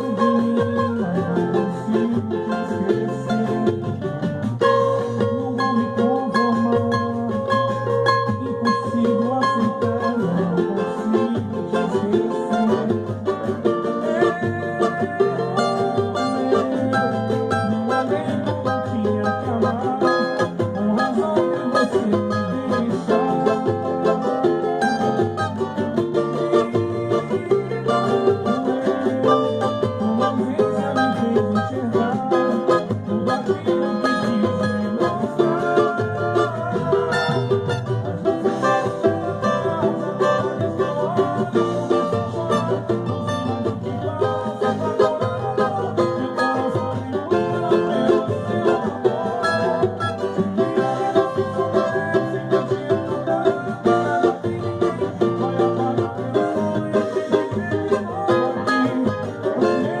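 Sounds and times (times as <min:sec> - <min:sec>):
bass line: 0:00.0 - 1:00.0
plucked string instruments: 0:00.0 - 1:00.0.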